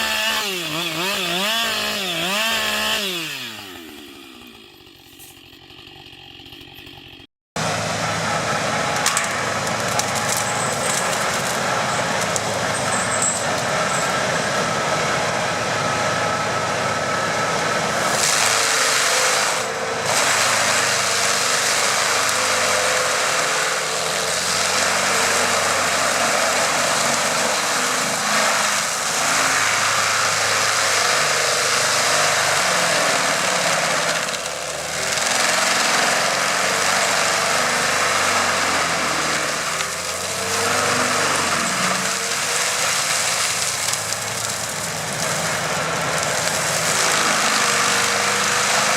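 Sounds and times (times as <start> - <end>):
stump grinder grinding: 0.0 - 48.9.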